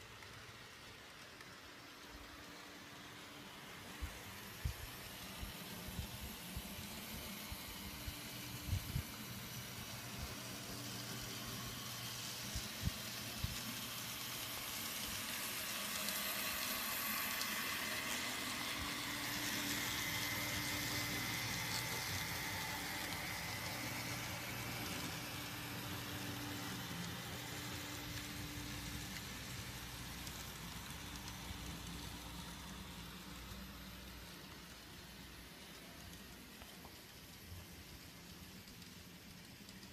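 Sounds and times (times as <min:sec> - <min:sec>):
model train wheels hissing on rails: 0:00.0 - 0:39.9.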